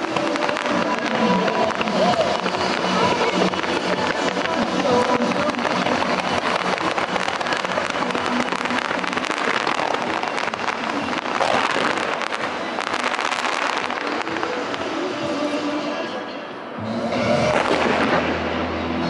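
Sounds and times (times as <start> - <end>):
fireworks crackling and popping: 0.0 - 16.0, 17.2 - 18.8.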